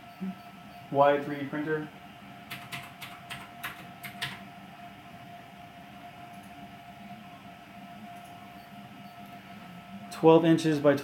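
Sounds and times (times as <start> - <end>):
printer motors whining and humming: 0.0 - 11.0.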